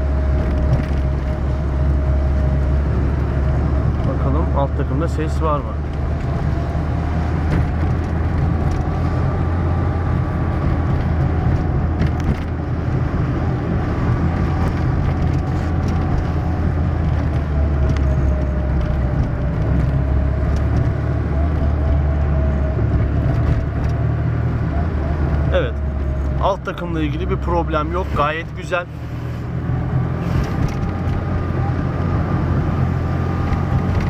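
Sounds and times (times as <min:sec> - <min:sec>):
engine and road drone: 0:00.0 - 0:34.0.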